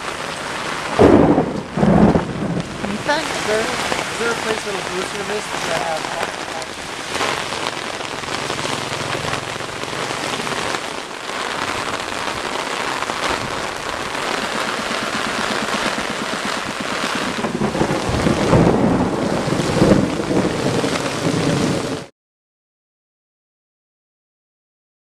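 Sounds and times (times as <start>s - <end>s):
heavy rain on pavement: 0.0s - 22.1s
low rolling thunder: 0.9s - 22.1s.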